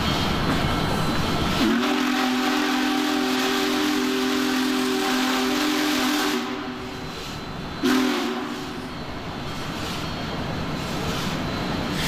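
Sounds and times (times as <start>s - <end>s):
hissing steam: 0.0s - 12.0s
steam locomotive chime whistle: 0.9s - 12.0s.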